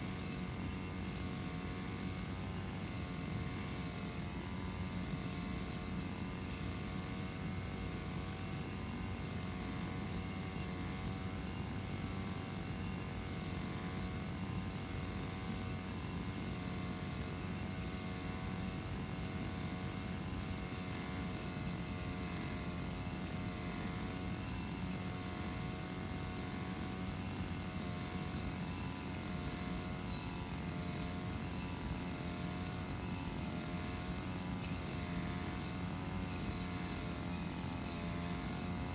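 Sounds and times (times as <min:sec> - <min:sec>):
brush cutter engine cutting grass: 0:00.0 - 0:38.9.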